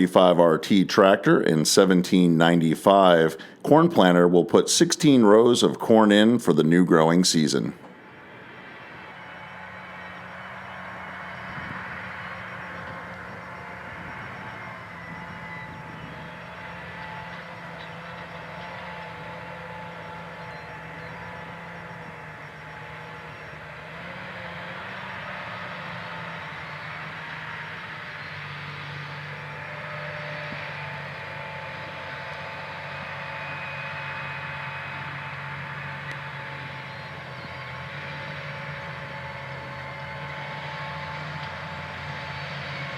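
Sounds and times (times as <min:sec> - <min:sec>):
tractor diesel engine droning: 0:00.0 - 0:42.9.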